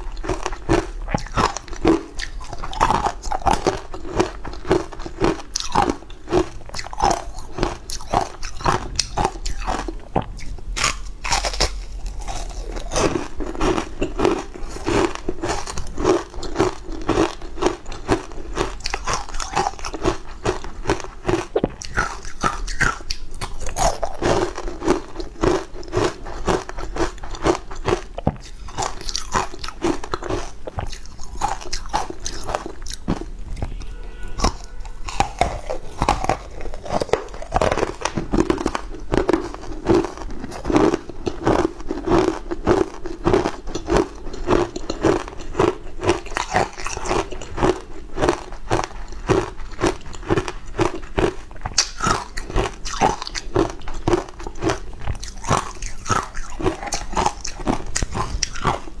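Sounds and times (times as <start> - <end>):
crunching and chewing frozen sweet: 0.0 - 59.0.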